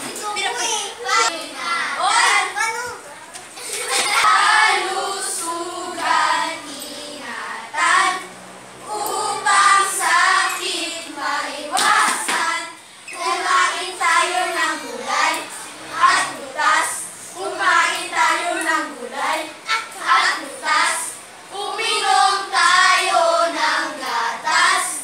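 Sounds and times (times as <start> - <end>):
children singing together: 3.6 - 25.0.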